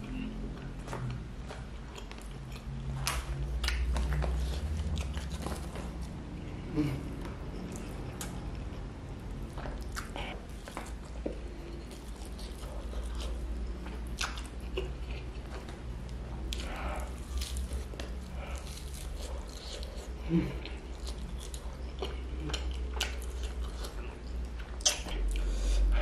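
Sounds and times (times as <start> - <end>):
chewing and biting: 0.0 - 26.0.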